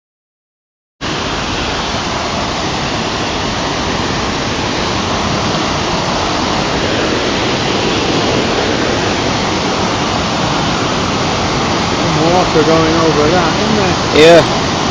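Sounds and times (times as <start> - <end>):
floodwater rushing: 1.0 - 14.9.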